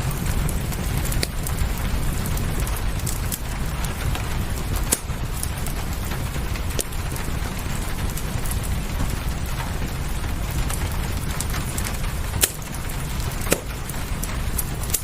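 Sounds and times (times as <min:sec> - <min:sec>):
low rumble: 0:00.0 - 0:15.0
rain hissing: 0:00.0 - 0:15.0
wood fire crackling and popping: 0:00.0 - 0:15.0.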